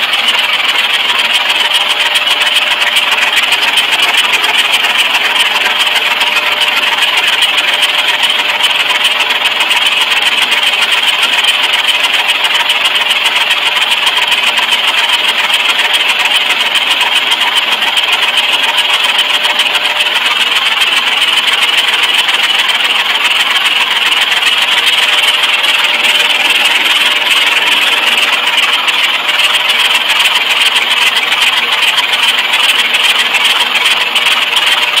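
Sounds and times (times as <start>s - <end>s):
car engine running steadily: 0.0s - 35.0s.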